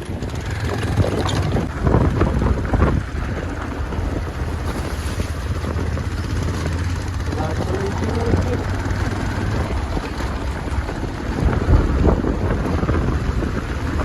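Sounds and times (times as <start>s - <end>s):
knocks and rattles: 0.0s - 12.0s
motorcycle engine running: 0.0s - 14.0s
wind buffeting microphone: 0.0s - 14.0s.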